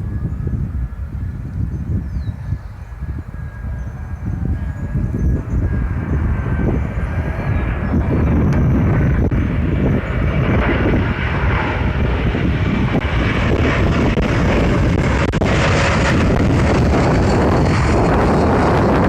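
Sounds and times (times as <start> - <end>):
airplane engine rumble: 0.0 - 19.0.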